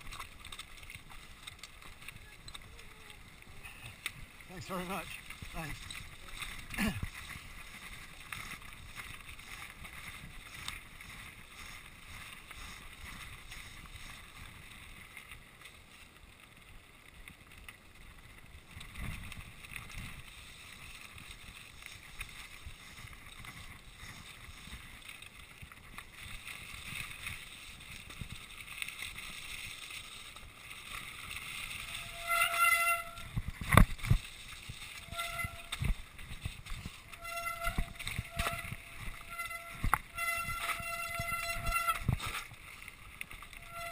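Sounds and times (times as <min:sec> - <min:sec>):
bike tyres rattling over stones: 0:00.0 - 0:43.9.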